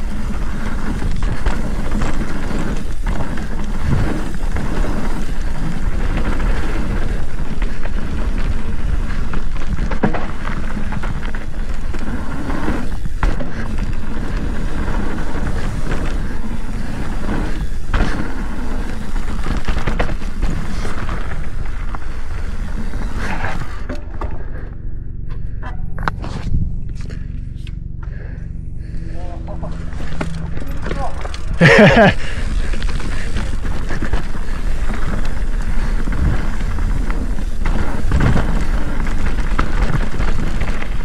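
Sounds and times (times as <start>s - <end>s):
bike rattling over bumps: 0.0s - 24.7s, 28.1s - 41.0s
mountain bike tyres on dirt: 0.0s - 41.0s.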